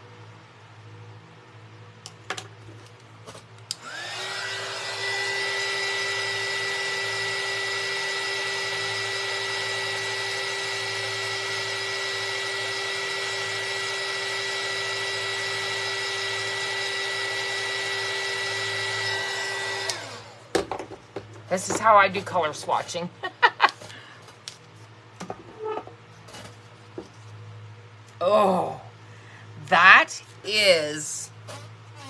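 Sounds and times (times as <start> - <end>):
heat tool fan whining: 0.0 - 32.0.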